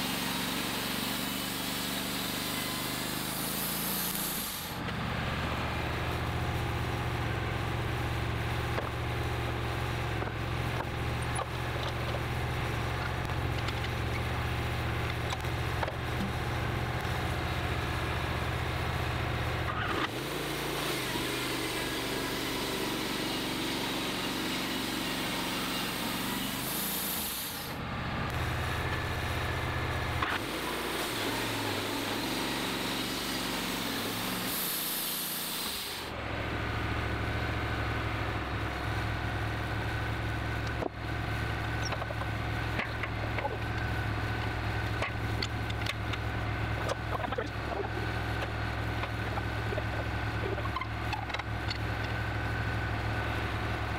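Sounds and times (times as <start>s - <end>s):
sawmill engine drone: 0.0s - 53.9s.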